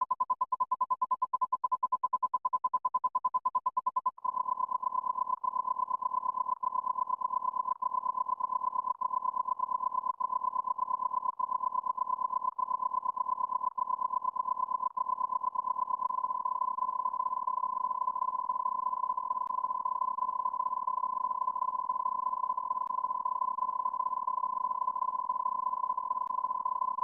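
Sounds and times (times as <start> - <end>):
high electronic beep tone: 0.0 - 27.0.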